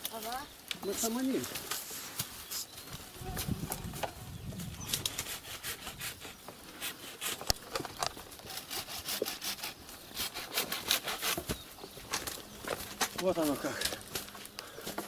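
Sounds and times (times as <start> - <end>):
dry twigs crackling and snapping: 0.0 - 5.6, 6.2 - 10.1, 10.7 - 15.0.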